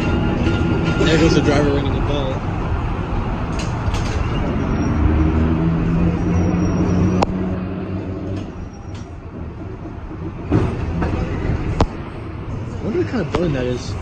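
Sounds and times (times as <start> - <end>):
streetcar wheel and track rumble: 0.0 - 14.0.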